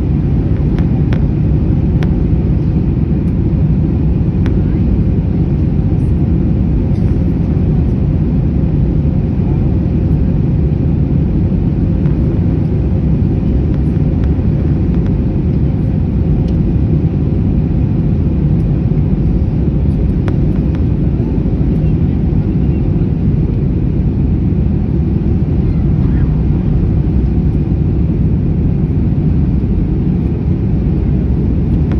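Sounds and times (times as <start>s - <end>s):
jet engine rumble: 0.0s - 31.9s.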